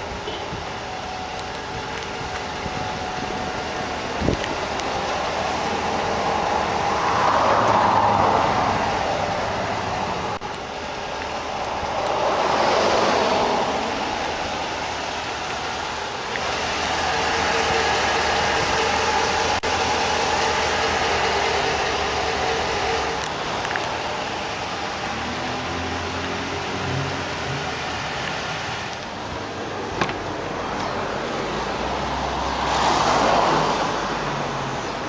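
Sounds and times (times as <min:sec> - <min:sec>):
engine hum: 0:00.0 - 0:35.0
vehicles passing: 0:00.0 - 0:35.0.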